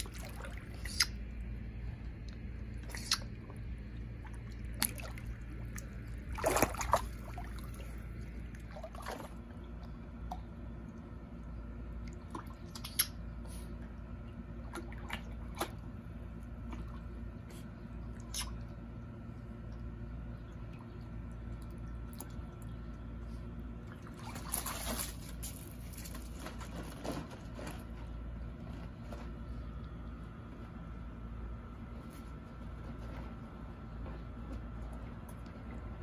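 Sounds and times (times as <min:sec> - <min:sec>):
water sloshing and splashing: 0:00.0 - 0:19.1, 0:19.7 - 0:30.8
steady low hum: 0:00.0 - 0:36.0.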